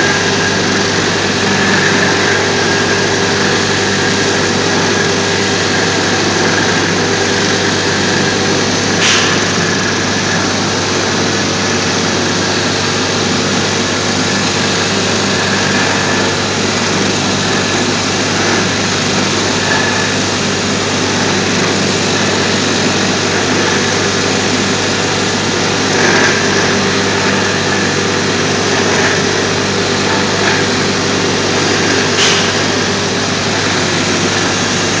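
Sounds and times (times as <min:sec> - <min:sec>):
floor grinder grinding concrete: 0:00.0 - 0:35.0.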